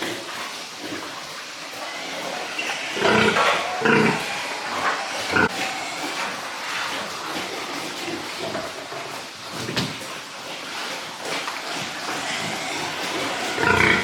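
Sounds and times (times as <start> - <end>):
pigs grunting and squealing: 0.0 - 14.0.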